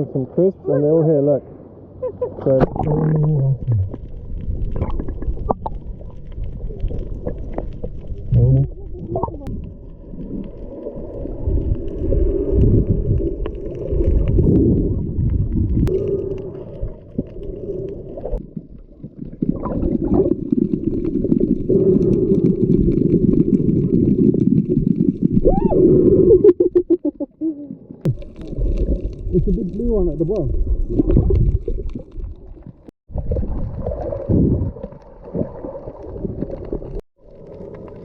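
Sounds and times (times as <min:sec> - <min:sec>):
underwater gurgling and sloshing: 0:00.0 - 0:38.0.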